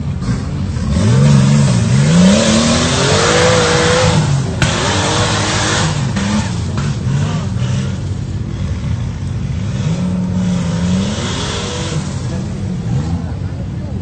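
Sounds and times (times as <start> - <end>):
engine revving: 0.0 - 13.8.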